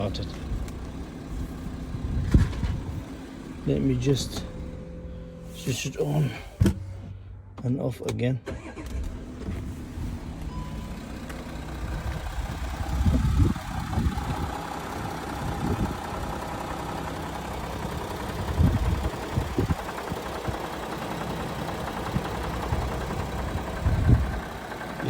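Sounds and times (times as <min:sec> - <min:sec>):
car engine idling: 0:00.0 - 0:25.0
dull low engine bumps: 0:00.0 - 0:25.0.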